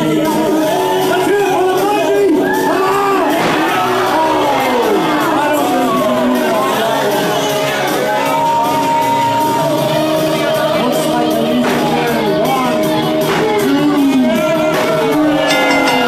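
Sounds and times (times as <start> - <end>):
music: 0.0 - 16.0
voices singing and shouting: 0.0 - 16.0.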